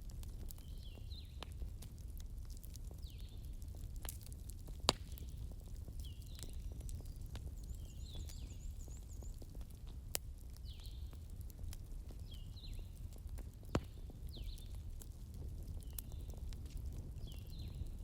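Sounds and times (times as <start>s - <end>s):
fire crackles and pops: 0.0s - 18.0s
low rumble of flames: 0.0s - 18.0s.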